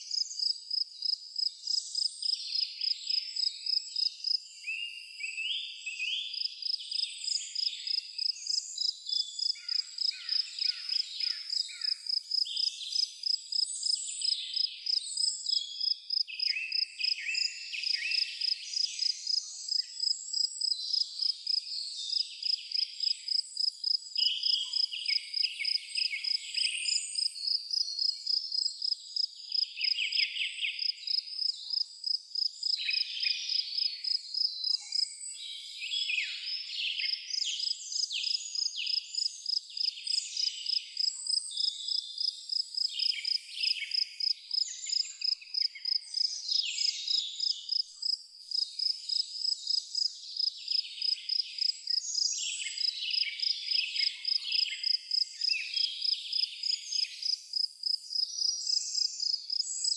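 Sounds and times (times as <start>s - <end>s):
cricket chirping: 0.0s - 5.2s, 6.3s - 35.6s, 36.2s - 59.9s
songbirds singing: 0.0s - 59.9s.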